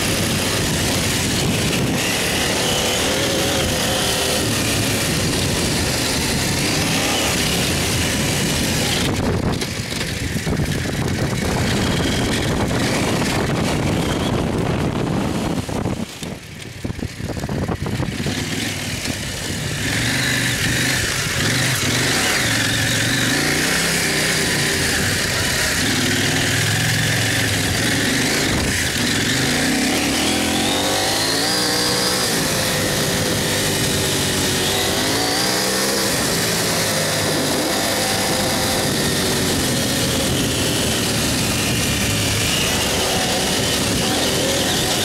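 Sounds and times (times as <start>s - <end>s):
dirt bike engine revving: 0.0s - 45.0s
wind on microphone: 0.0s - 45.0s.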